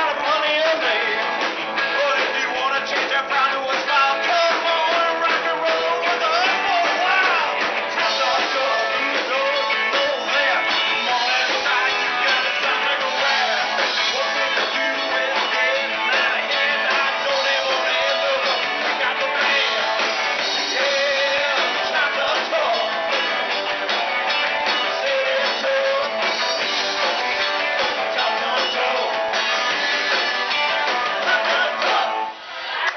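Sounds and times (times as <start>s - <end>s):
person singing: 0.0s - 23.1s, 24.7s - 26.4s, 27.8s - 29.3s, 30.8s - 32.3s
bass: 0.0s - 32.9s
drum kit: 0.0s - 32.9s
electric guitars: 0.0s - 32.9s.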